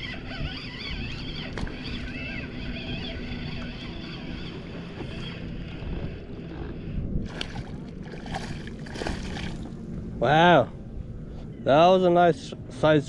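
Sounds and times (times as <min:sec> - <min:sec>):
water around kayak: 0:00.0 - 0:13.0
wind: 0:00.0 - 0:13.0.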